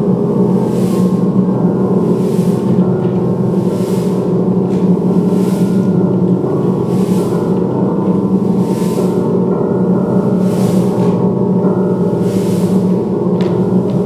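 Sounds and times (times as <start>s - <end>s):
droning music with ringing tones: 0.0s - 14.0s.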